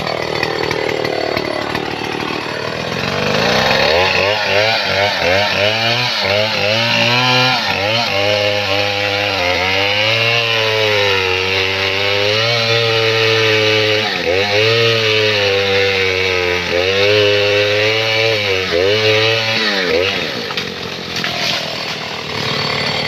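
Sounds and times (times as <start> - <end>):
chainsaw cutting tree trunk: 0.0 - 23.0.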